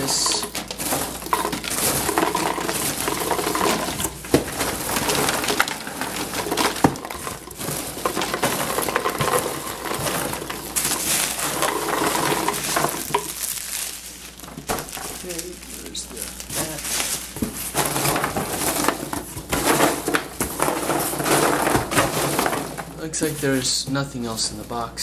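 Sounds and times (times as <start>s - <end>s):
packing material rustling: 0.0s - 24.8s.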